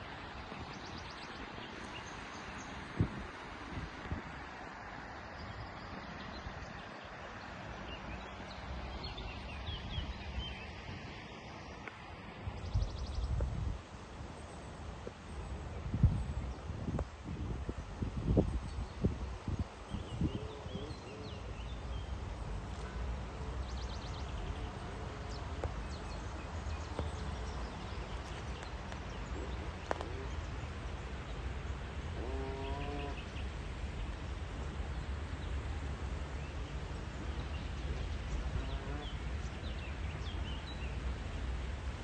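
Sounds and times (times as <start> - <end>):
low background noise: 0.0 - 42.0.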